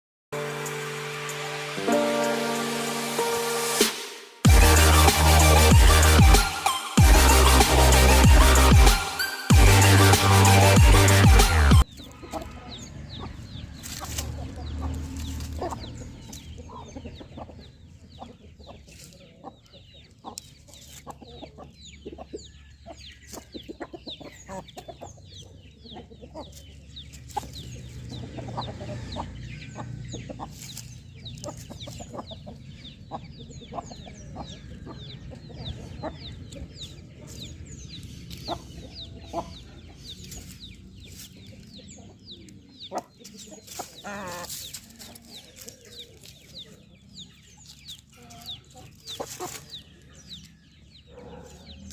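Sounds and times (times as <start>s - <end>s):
chickens clucking: 0.4s - 51.9s
high chirping calls: 0.4s - 51.9s.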